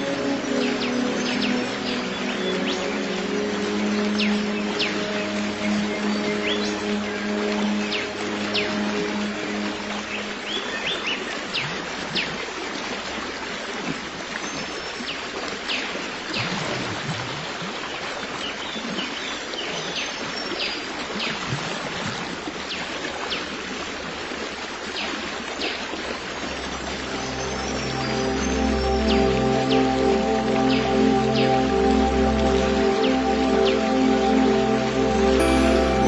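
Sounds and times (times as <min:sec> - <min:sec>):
stream running water: 0:00.0 - 0:36.0.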